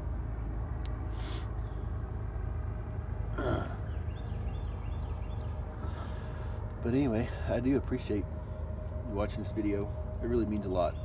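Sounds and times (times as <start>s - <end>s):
propeller plane droning overhead: 0.0s - 11.0s.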